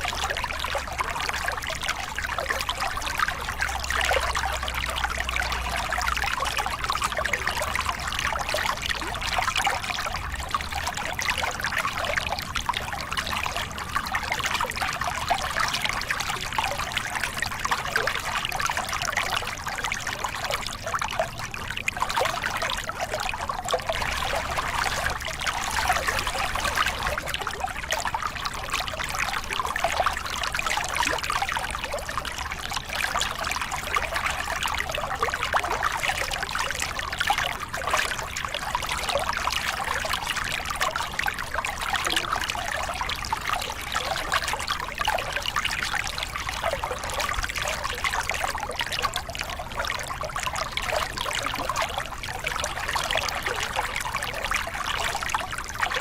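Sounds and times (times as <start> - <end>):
water splashing over rocks: 0.0 - 56.0.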